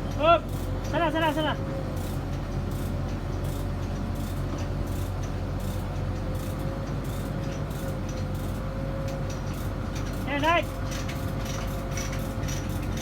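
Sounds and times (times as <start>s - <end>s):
crane engine droning with whine: 0.0s - 13.0s.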